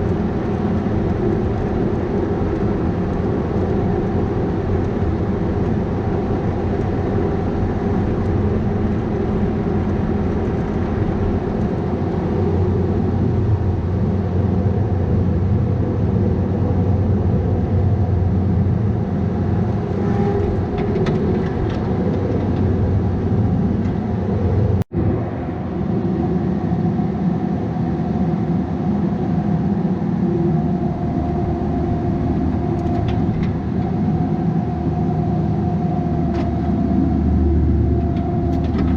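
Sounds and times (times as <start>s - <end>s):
excavator diesel engine running: 0.0s - 25.6s, 30.4s - 38.9s.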